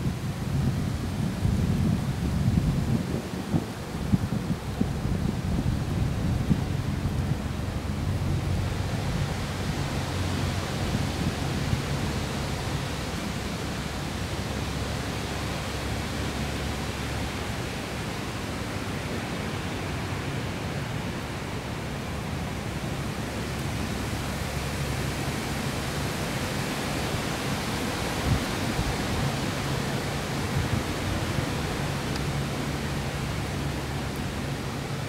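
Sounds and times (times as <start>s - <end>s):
faint low boat engine drone: 0.0s - 35.0s
wind and water rushing: 0.0s - 35.0s.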